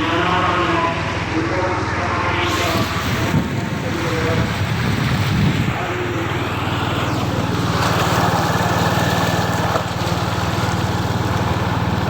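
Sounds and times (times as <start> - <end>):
faint high whine: 0.0 - 10.0
vehicle engine running: 0.0 - 12.0.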